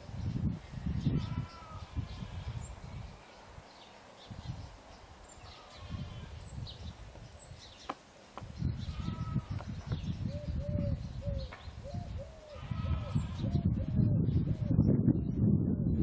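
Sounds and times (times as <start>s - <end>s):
wind rumble on microphone: 0.0s - 7.8s, 8.4s - 16.0s
birds chirping: 0.0s - 16.0s.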